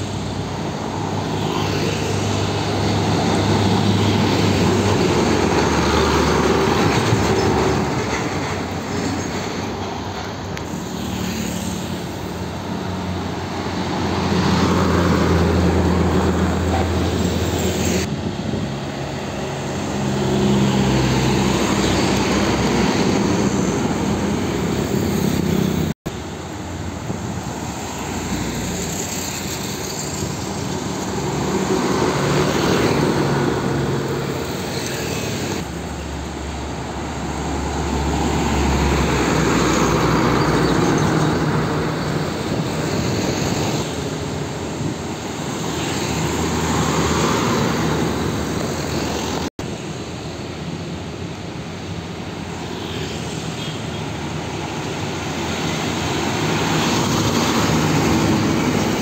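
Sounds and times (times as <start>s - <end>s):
traffic noise: 0.0s - 59.0s.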